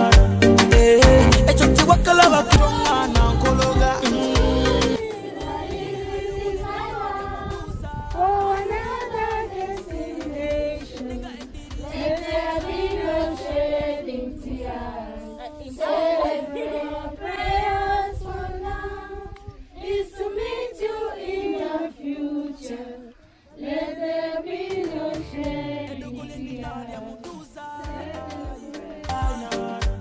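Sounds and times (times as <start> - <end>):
voices singing in chorus: 0.0 - 30.0.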